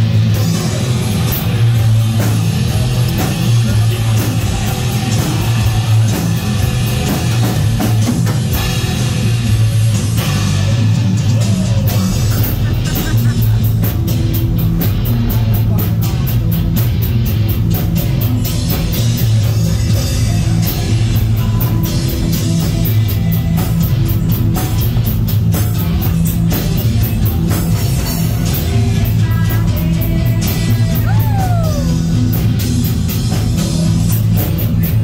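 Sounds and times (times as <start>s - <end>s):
rock music over loudspeakers: 0.0s - 35.0s.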